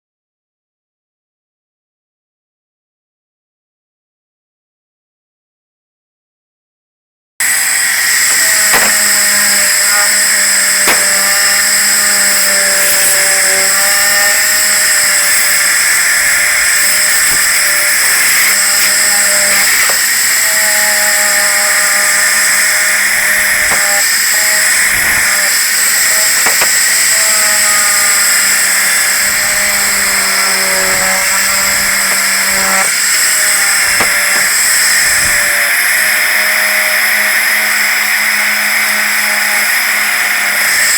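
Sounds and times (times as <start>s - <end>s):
power tool whining: 7.4s - 40.9s.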